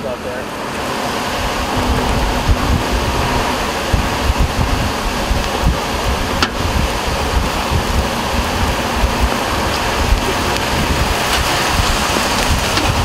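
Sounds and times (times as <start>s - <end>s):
gusting low rumble: 0.0s - 13.0s
rain on a moving vehicle: 0.0s - 13.0s
wind noise: 0.0s - 13.0s.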